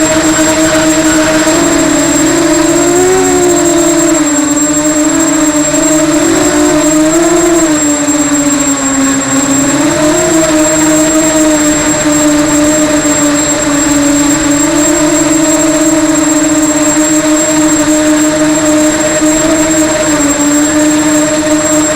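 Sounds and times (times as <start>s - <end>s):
drone propellers humming: 0.0s - 21.9s
high-pitched whine: 0.0s - 21.9s.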